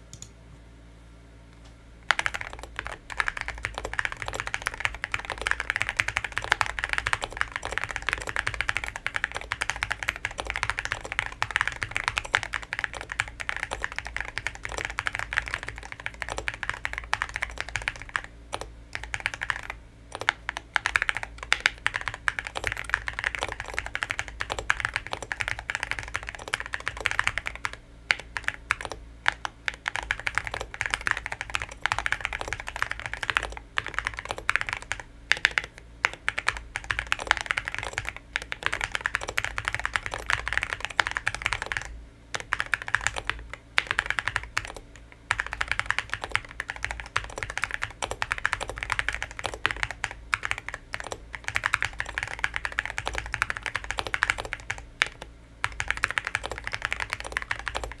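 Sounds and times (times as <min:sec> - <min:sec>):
fast mechanical keyboard typing: 0:02.1 - 0:58.0.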